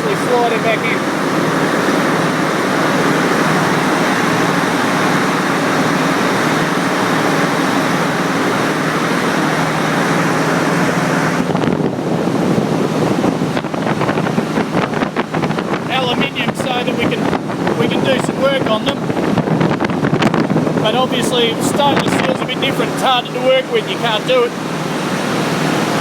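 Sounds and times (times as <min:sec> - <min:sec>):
machinery roar: 0:00.0 - 0:26.0.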